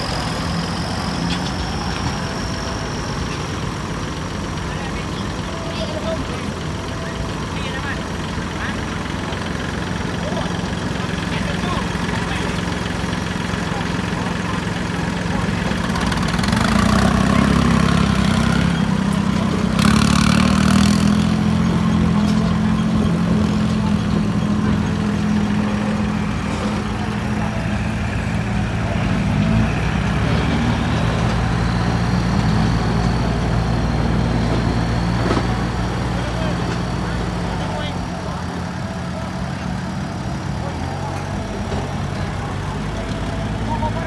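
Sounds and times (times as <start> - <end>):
tractor diesel engines under load: 0.0 - 44.0.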